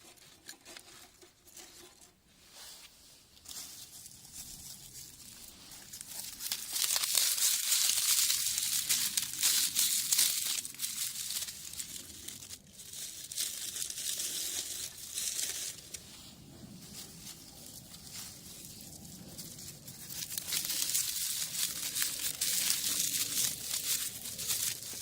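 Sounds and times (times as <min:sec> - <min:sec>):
paper or plastic crinkling: 0:03.4 - 0:16.2, 0:16.9 - 0:25.0.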